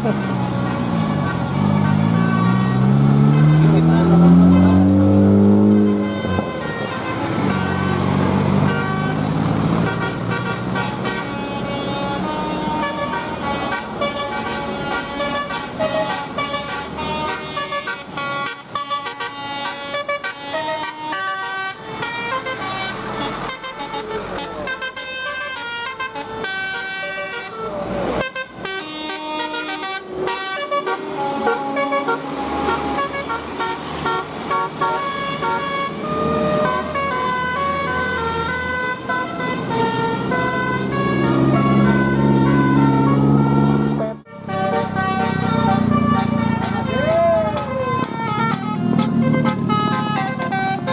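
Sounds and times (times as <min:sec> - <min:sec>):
multi-tone bus horns: 0:00.0 - 0:50.9.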